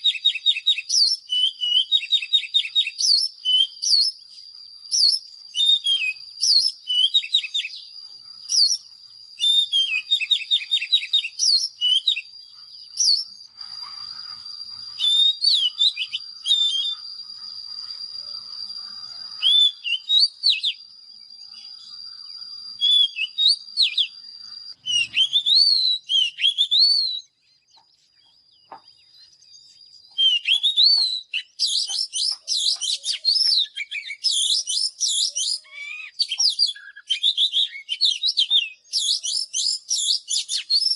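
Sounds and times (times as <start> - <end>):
magpie-robin singing: 0.0 - 17.2, 18.8 - 40.9.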